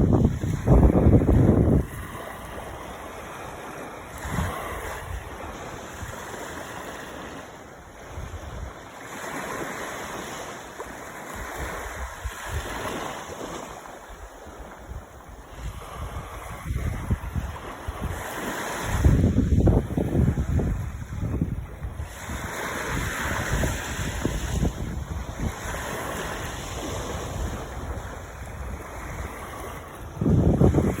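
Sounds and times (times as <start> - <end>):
wind buffeting microphone: 0.0 - 10.5, 11.2 - 31.0
sea waves washing: 0.0 - 31.0.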